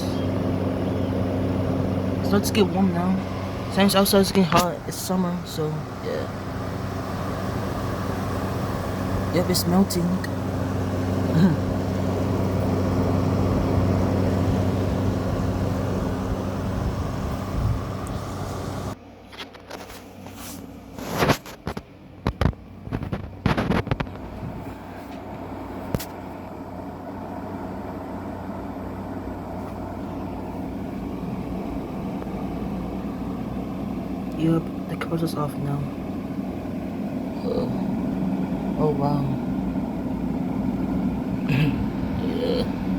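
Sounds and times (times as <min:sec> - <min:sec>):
air conditioner humming: 0:00.0 - 0:42.9.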